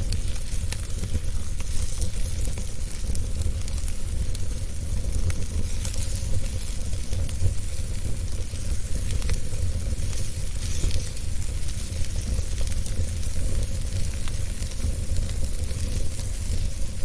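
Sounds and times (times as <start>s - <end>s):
fire crackles: 0.0s - 17.0s
fire hissing and rumbling: 0.0s - 17.0s.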